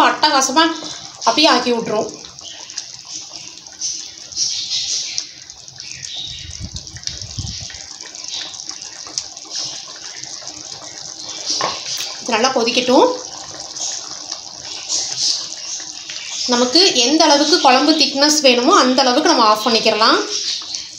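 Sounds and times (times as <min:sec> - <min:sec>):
thick sauce bubbling in a pan: 0:00.0 - 0:20.9.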